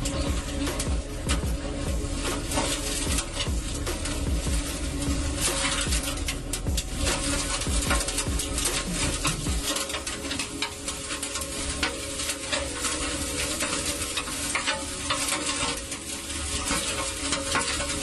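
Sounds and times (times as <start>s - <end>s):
heavy rain pattering: 0.0s - 18.0s
low steady hum: 0.0s - 18.0s.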